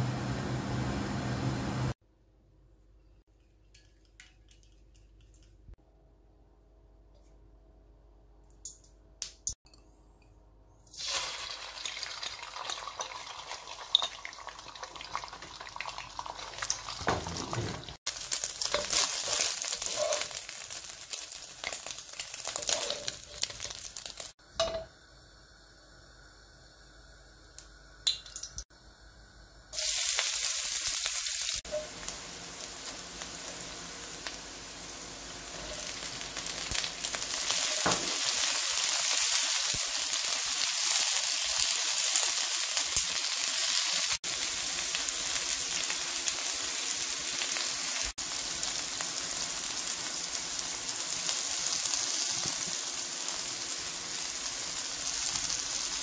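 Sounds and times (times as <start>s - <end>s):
vegetables sizzling in hot oil: 10.9s - 56.0s.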